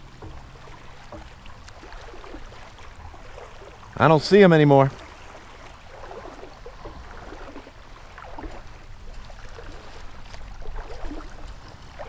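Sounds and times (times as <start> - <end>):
ripples lapping against hull: 0.0 - 12.0.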